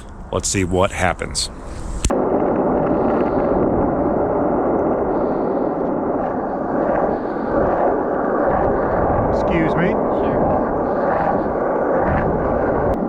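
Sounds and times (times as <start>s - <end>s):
skateboard wheels rolling on pavement: 1.5s - 13.0s.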